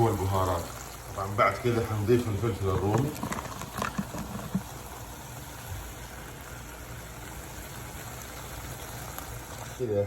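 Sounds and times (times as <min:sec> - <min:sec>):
pot cooking with steady hiss: 0:00.0 - 0:10.0.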